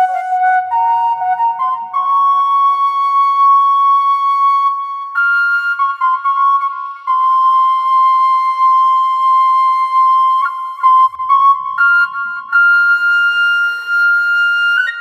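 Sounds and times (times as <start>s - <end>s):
flute playing held notes: 0.0s - 15.0s.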